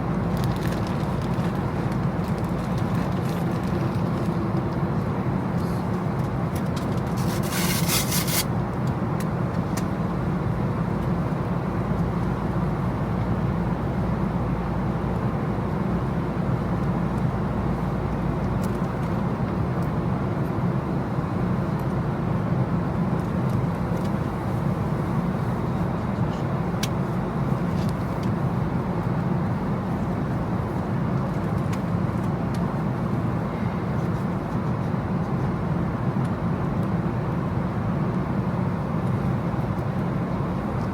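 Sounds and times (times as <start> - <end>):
vehicle rumble with road noise: 0.0 - 40.9.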